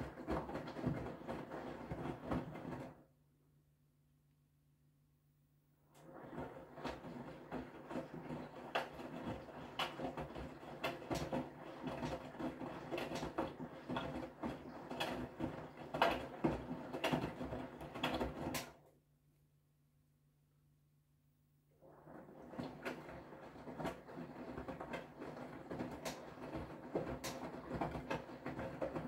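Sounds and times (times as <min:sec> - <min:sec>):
washing machine sloshing laundry: 0:00.0 - 0:03.1, 0:05.9 - 0:18.9, 0:21.8 - 0:29.0.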